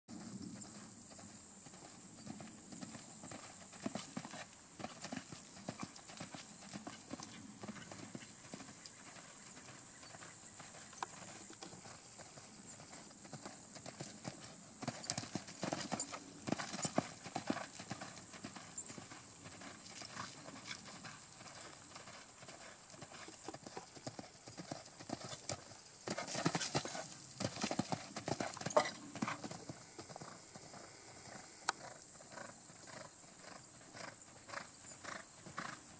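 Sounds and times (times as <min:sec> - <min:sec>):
horse hooves cantering on sand: 0:00.1 - 0:35.9.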